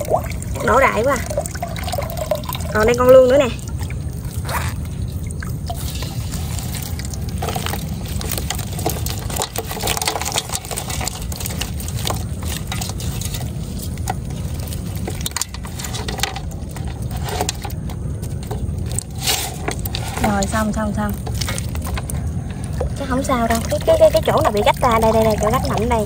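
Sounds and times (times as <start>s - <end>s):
water splashing and dripping: 0.0s - 26.0s.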